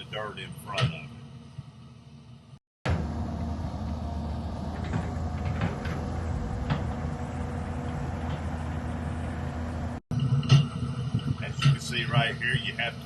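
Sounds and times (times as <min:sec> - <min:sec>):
diesel excavator engine running: 0:00.0 - 0:13.0.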